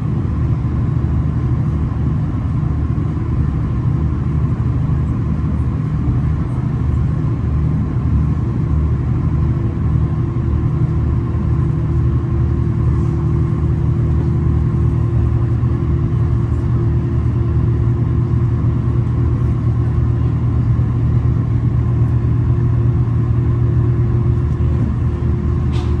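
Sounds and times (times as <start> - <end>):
diesel train engine drone: 0.0 - 26.0.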